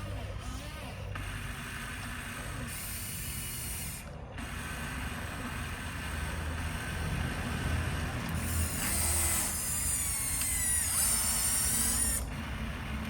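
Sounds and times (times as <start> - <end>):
electric motors whirring: 0.0 - 13.0.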